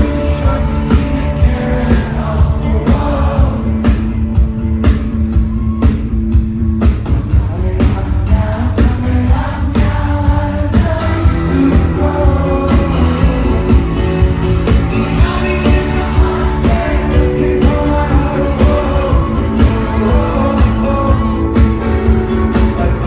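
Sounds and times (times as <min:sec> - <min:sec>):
electric guitars: 0:00.0 - 0:23.0
singer with rock band: 0:00.0 - 0:23.0.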